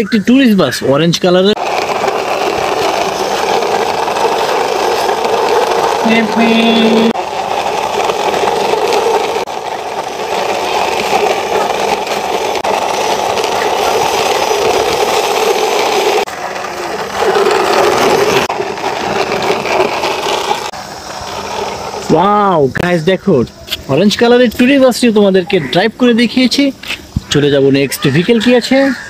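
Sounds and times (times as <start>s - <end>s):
toy wheels rolling on concrete: 0.9s - 29.0s.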